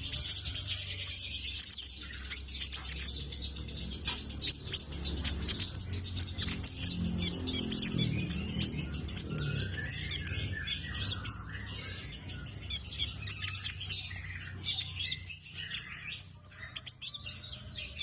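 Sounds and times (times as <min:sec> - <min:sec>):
songbird chirping: 0:00.0 - 0:18.0.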